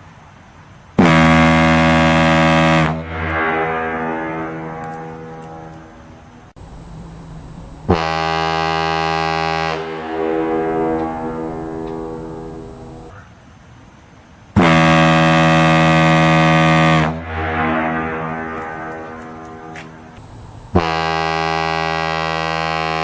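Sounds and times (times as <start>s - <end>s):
ship's horn blasts: 1.0s - 6.5s, 7.9s - 13.1s, 14.6s - 23.0s.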